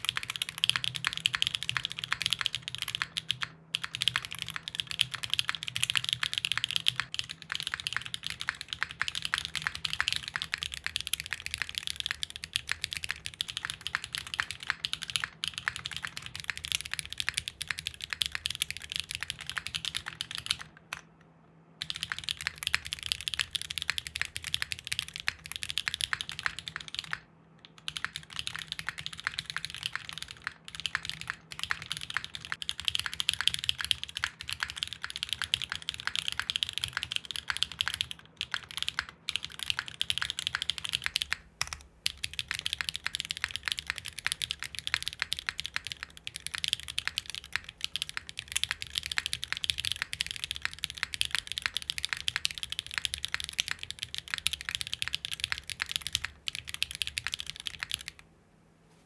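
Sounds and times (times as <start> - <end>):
fast mechanical keyboard typing: 0.0 - 21.0, 21.8 - 58.2.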